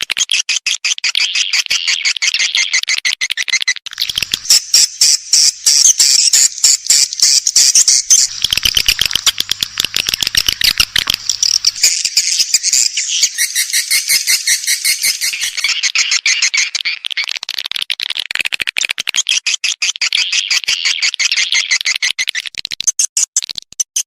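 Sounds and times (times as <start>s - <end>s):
high-pitched bird chirp chatter: 0.0s - 24.0s.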